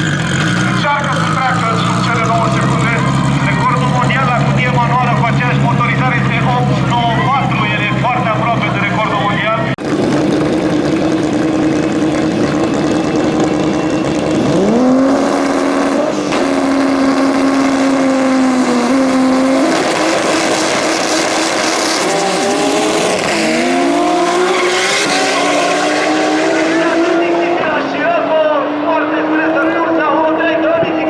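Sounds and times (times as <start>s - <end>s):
race car engine running hard: 0.0s - 31.0s.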